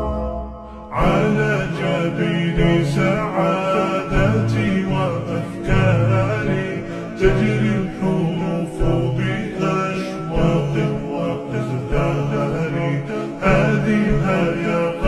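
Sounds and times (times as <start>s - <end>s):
layered singing voices: 0.0s - 15.0s
musical backing: 0.0s - 15.0s.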